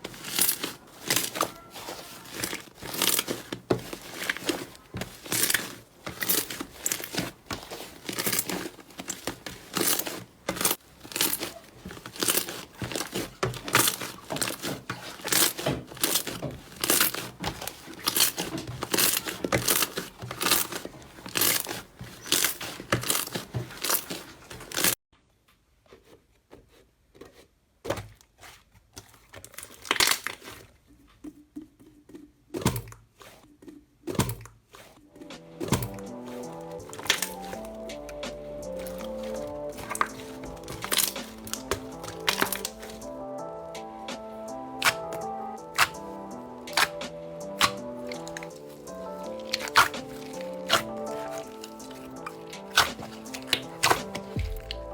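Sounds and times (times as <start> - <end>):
slime crackling and popping: 0.0 - 25.0, 29.4 - 30.6, 35.2 - 54.9.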